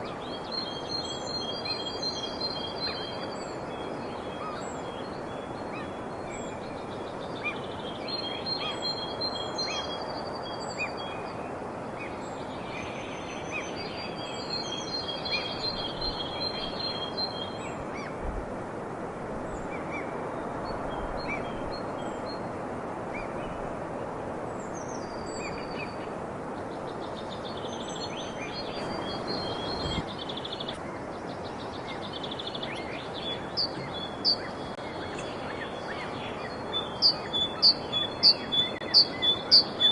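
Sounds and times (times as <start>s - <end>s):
songbirds trilling and chirping: 0.0s - 18.3s, 19.4s - 39.9s
steady background hiss: 0.0s - 39.9s.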